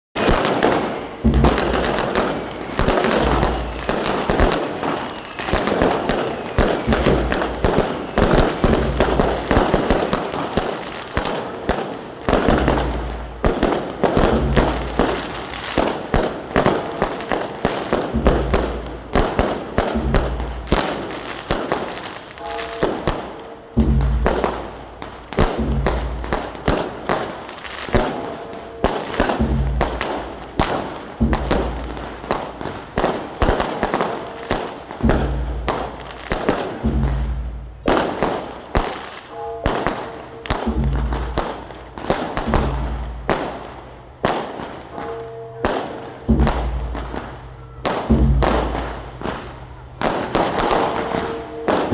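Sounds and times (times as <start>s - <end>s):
deep fireworks booms: 0.2s - 51.9s
fireworks bangs and cracks: 0.2s - 51.9s.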